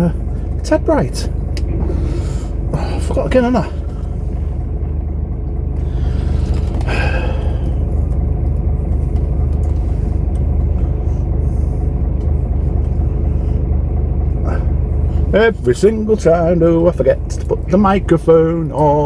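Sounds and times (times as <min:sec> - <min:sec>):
diesel truck engine rumble: 0:00.0 - 0:19.0.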